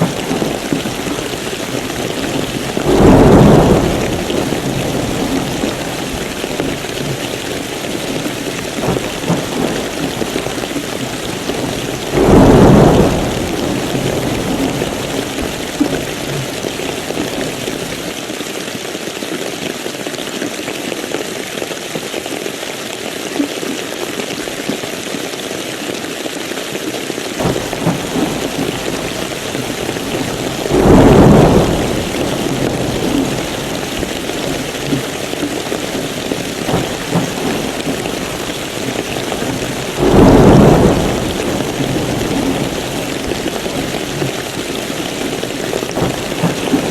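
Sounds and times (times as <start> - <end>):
thunder rolling: 0.0 - 18.1, 27.4 - 46.9
steady rain falling: 0.0 - 46.9.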